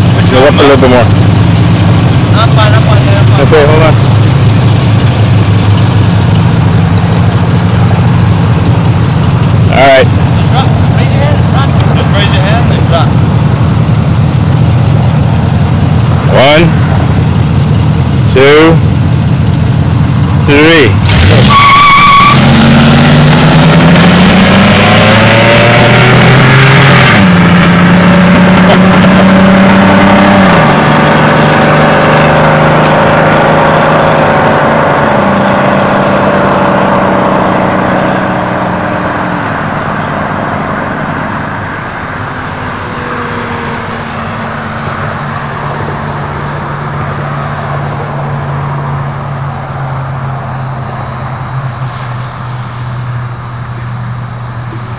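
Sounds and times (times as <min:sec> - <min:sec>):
cars accelerating hard: 0:00.0 - 0:54.9.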